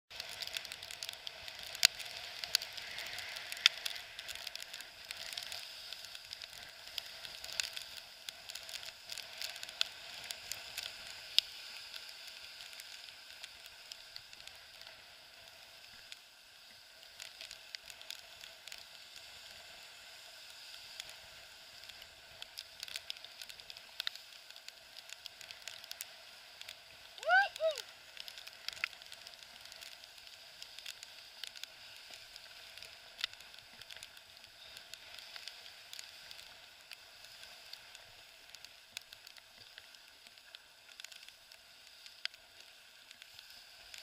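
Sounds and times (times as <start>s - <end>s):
choppy water hissing: 0.2s - 44.0s.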